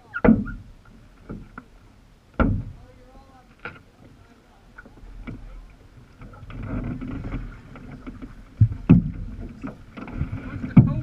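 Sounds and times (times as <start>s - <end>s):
waves lapping against kayak hull: 0.0s - 11.0s.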